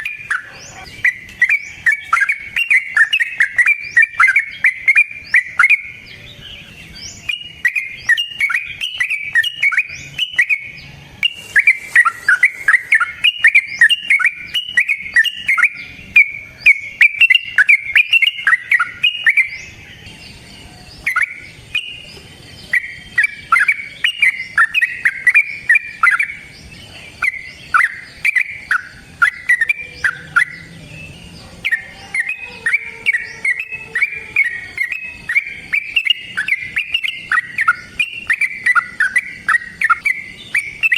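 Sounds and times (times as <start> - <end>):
bird singing bubbly chirps: 0.0 - 40.9.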